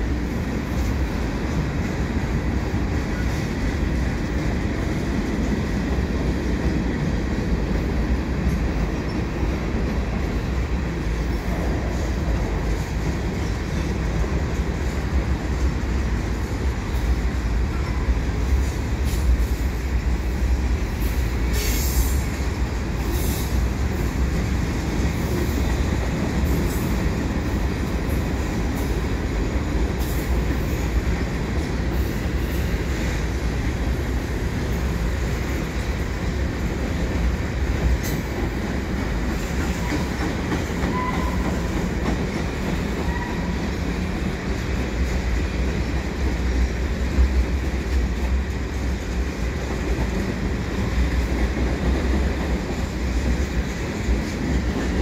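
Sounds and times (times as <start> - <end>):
freight train cars rolling: 0.0 - 55.0.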